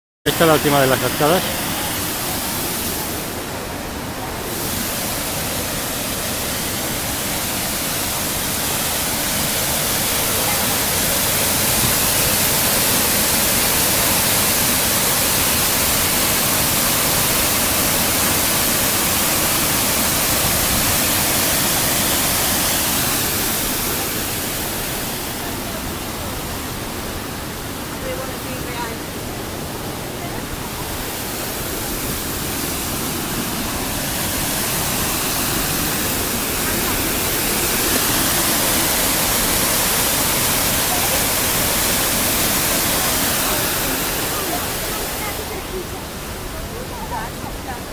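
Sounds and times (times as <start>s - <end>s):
waterfall crashing: 0.3s - 47.9s.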